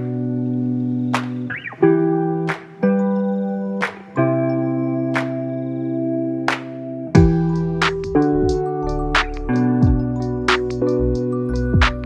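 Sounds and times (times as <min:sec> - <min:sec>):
held keyboard chords: 0:00.0 - 0:12.0.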